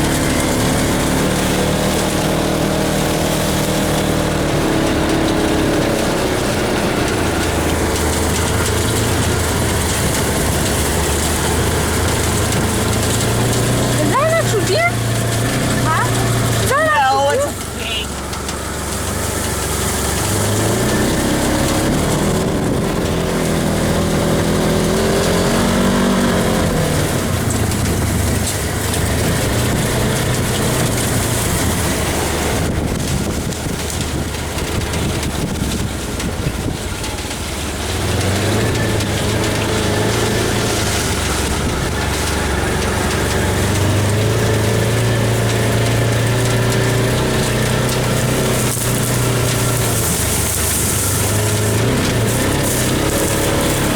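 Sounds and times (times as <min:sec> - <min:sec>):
off-road vehicle engine driving: 0:00.0 - 0:53.9.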